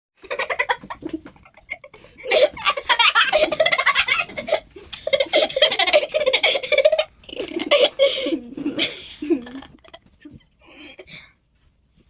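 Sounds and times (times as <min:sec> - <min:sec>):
children laughing: 0:00.2 - 0:10.1.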